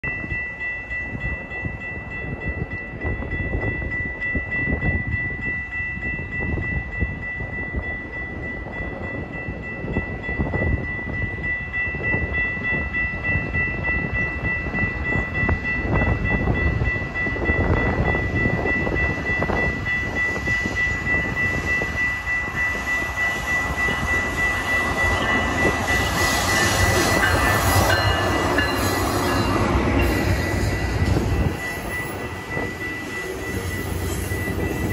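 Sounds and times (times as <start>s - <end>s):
railroad crossing bell ringing: 0.0s - 34.9s
train rumble: 0.0s - 34.9s.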